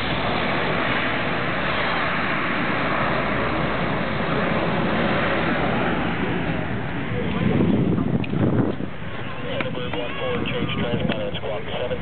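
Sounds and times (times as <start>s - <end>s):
turboprop aircraft engines roaring: 0.0s - 12.0s.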